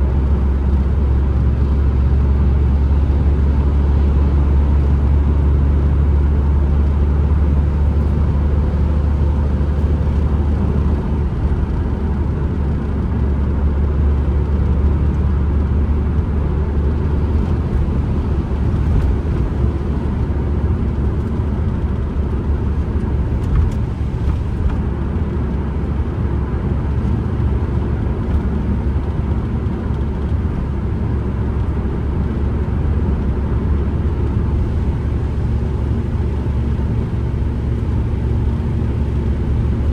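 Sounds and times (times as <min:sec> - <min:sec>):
van cabin road rumble: 0:00.0 - 0:39.9.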